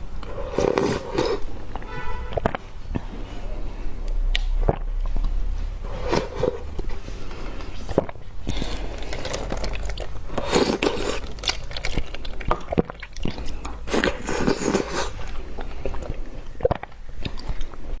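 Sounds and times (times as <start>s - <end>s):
ice crunching being chewed: 0.0s - 3.5s, 4.4s - 18.0s.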